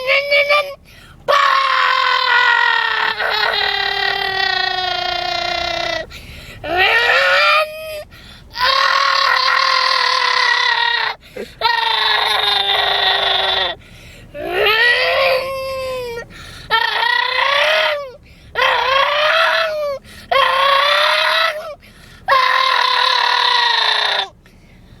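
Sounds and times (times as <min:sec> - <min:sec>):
person imitating truck brake: 0:00.0 - 0:24.5.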